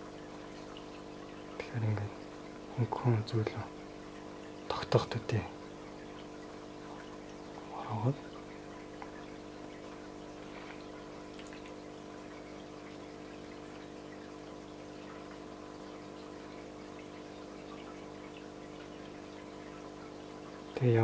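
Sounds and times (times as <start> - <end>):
small water pump humming: 0.0 - 21.0.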